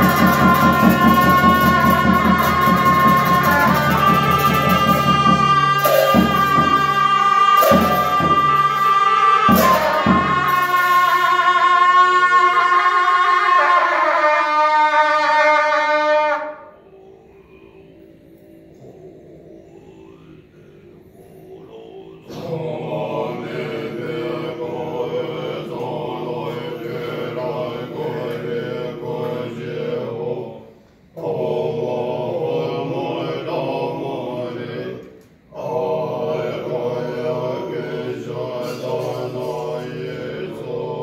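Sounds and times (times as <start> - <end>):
monks chanting together: 0.0 - 41.0.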